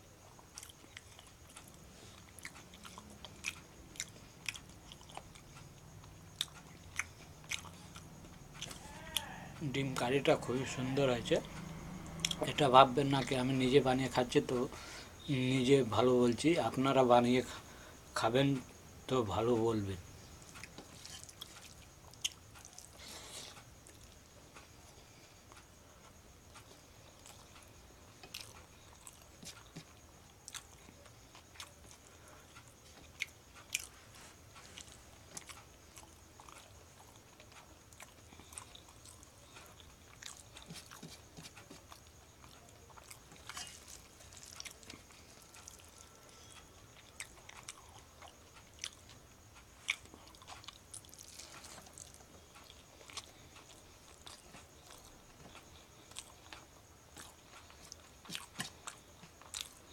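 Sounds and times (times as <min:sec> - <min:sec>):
person chewing food: 0:00.1 - 0:10.1, 0:11.4 - 0:12.4, 0:20.1 - 0:59.9.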